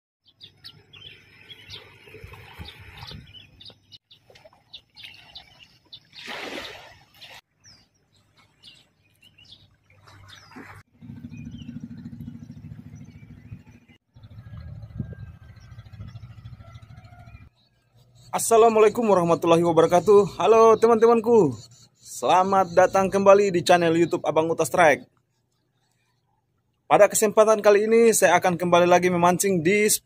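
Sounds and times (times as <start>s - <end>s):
birds chirping: 0.2s - 30.0s
outdoor ambience: 0.2s - 30.0s.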